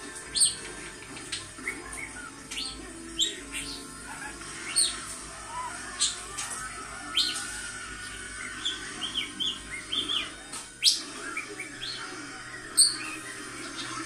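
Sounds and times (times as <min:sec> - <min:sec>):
budgerigar warbling: 0:01.6 - 0:14.0.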